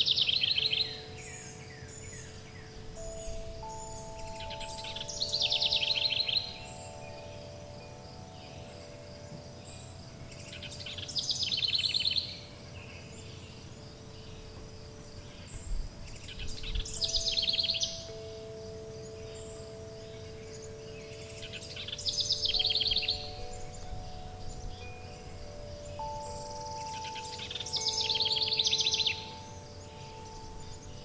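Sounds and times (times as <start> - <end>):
songbird trilling: 0.0 - 31.0
steady background hiss: 0.0 - 31.0
wind chimes ringing: 0.0 - 31.0.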